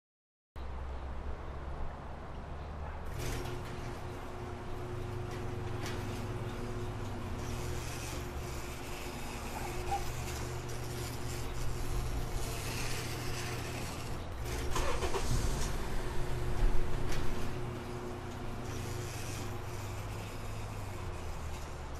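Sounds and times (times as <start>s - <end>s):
car engine humming: 0.8s - 21.9s.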